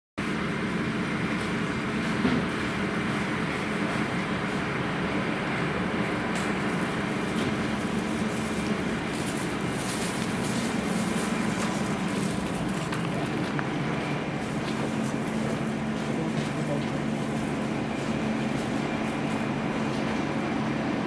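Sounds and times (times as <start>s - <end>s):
diesel railcar engine idling: 0.2s - 21.0s.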